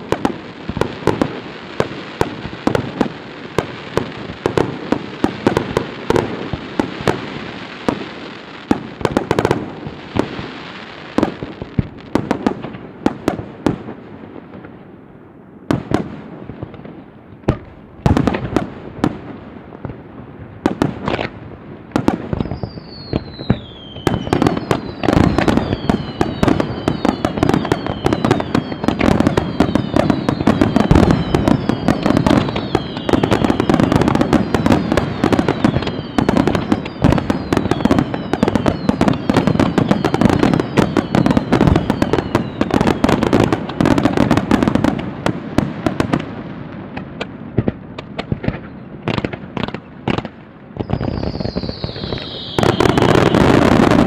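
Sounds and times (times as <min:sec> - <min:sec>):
fireworks whistling: 0:00.0 - 0:14.0, 0:20.6 - 0:54.0
fireworks bursting: 0:00.0 - 0:54.0.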